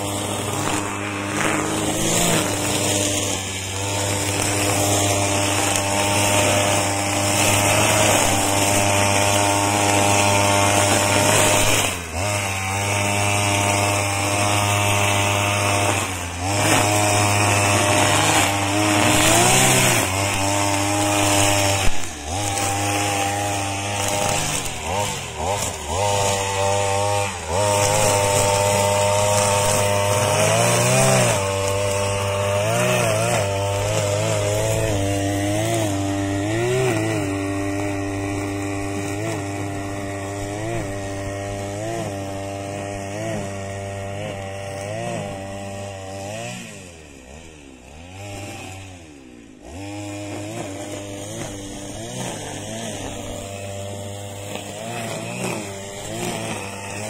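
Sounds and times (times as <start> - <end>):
brush-cutter engine cutting weeds: 0.0 - 57.0.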